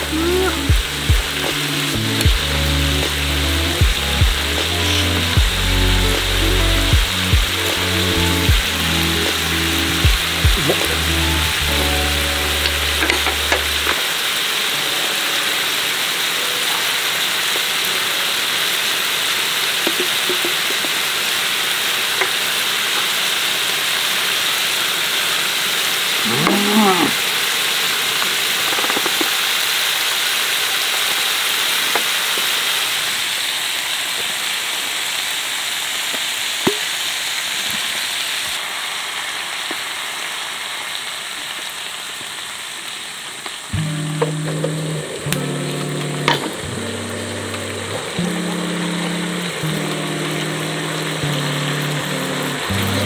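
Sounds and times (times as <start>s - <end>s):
meat sizzling in a pan: 0.8s - 53.0s.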